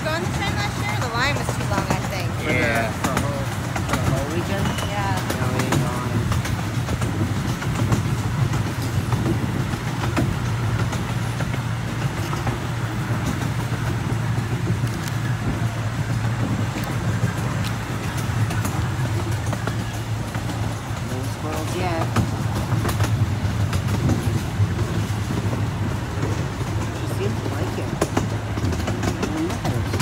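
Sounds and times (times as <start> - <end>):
small train rolling on track: 0.0 - 30.0.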